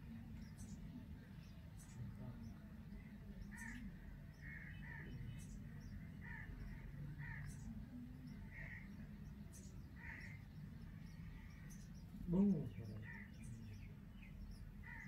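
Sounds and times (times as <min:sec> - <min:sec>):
harsh bird calls: 0:00.2 - 0:15.0.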